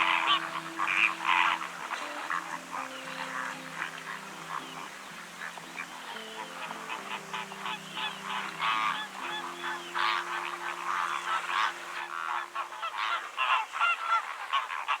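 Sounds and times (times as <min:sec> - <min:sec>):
birds honking: 0:00.0 - 0:15.0.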